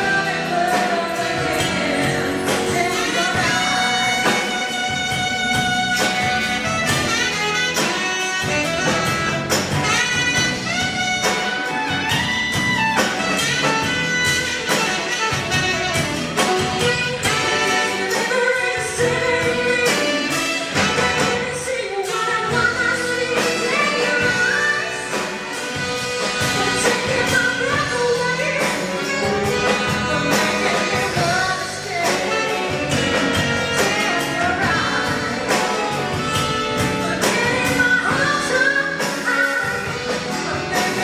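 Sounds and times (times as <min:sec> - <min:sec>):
jazz band playing: 0:00.0 - 0:41.0
saxophone section: 0:00.0 - 0:41.0
woman singing: 0:00.0 - 0:41.0.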